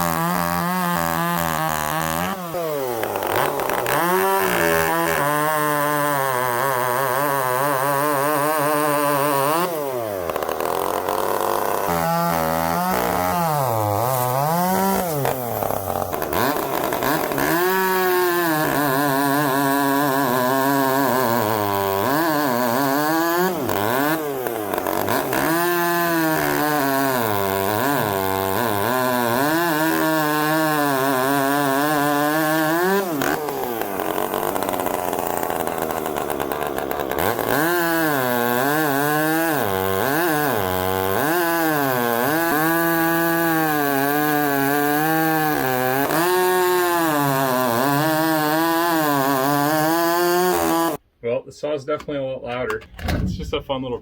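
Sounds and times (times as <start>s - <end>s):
chainsaw revving: 0.0s - 51.0s.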